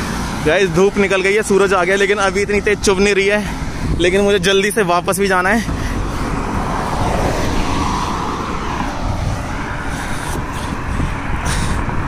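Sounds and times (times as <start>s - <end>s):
fast road traffic: 0.0s - 12.0s
vehicle passing: 0.0s - 12.0s
wind buffeting microphone: 0.0s - 12.0s.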